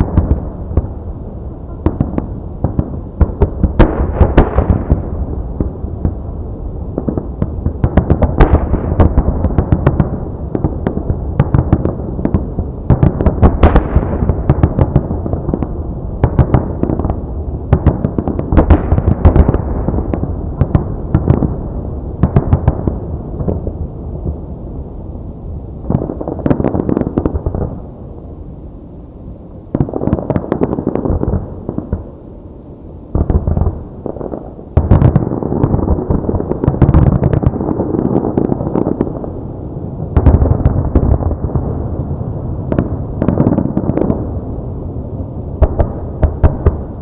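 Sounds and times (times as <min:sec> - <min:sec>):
fireworks booming and crackling: 0:00.0 - 0:47.0.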